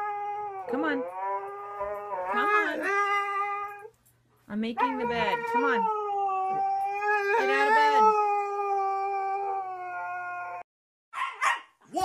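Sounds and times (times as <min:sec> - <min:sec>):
dog howling: 0:00.0 - 0:03.9, 0:04.8 - 0:10.7.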